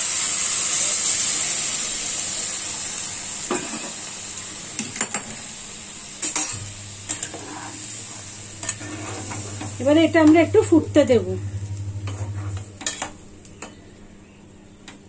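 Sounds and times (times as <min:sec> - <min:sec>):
food sizzling in hot oil: 0:00.0 - 0:13.5.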